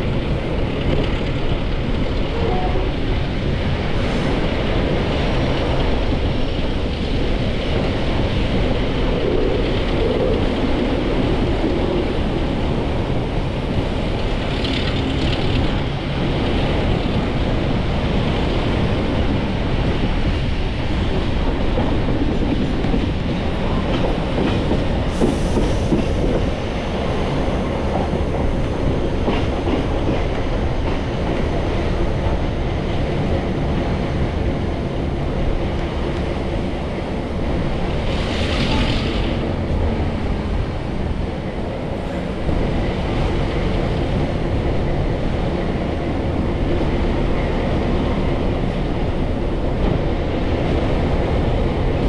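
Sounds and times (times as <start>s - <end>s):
wheels rumbling on rails: 0.0s - 52.0s.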